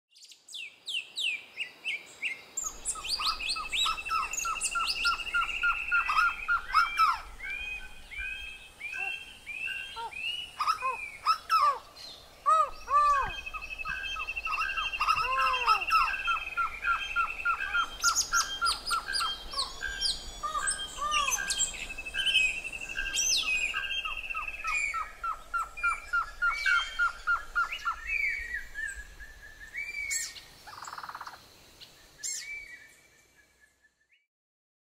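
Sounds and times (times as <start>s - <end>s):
birds singing and trilling: 0.2s - 34.2s.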